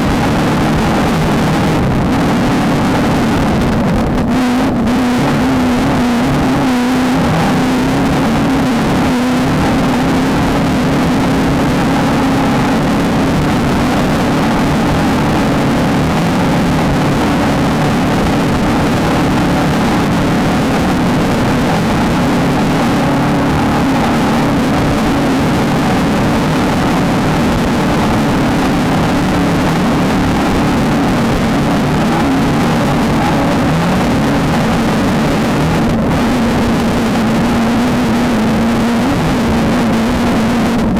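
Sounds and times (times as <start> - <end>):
race car engine running hard: 0.0 - 40.9
wind and chassis noise: 0.0 - 40.9.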